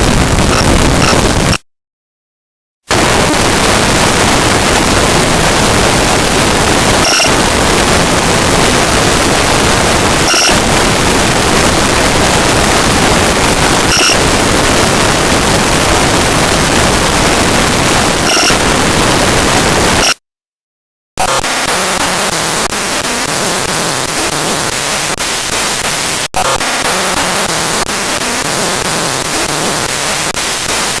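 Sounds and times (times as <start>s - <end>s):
harsh static-like noise: 0.0s - 1.6s, 2.9s - 20.2s, 21.2s - 31.0s.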